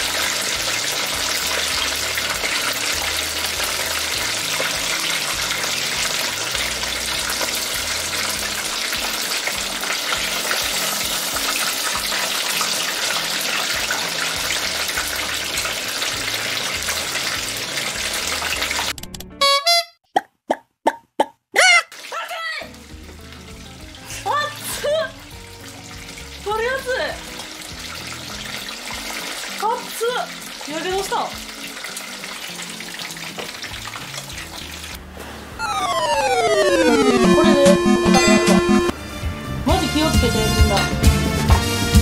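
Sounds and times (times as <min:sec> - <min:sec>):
chicken deep-frying in oil: 0:00.0 - 0:19.0, 0:21.6 - 0:37.2, 0:38.9 - 0:42.0.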